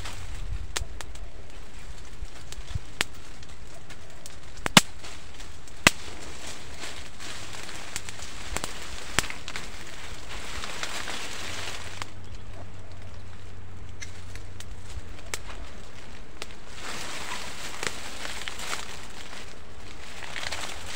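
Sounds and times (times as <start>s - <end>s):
twigs snapping: 0.0s - 20.9s.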